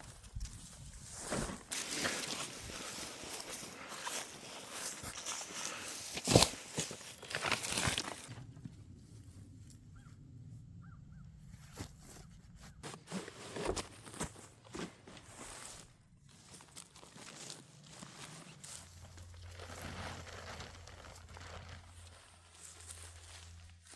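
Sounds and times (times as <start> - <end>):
footsteps while hiking: 0.0 - 8.3, 11.7 - 23.9
rustling: 0.1 - 9.7, 11.4 - 23.9.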